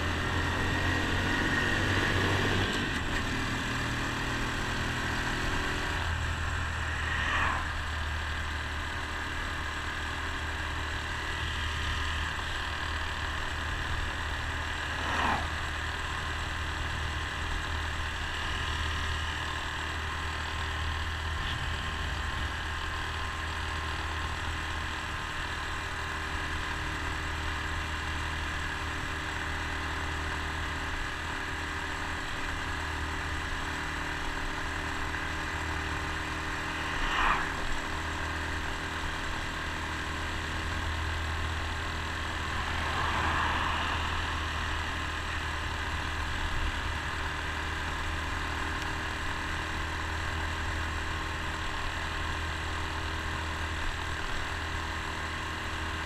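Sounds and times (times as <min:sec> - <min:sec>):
motorcycle engine running steadily: 0:00.0 - 0:56.0
wind and road noise: 0:00.0 - 0:56.0.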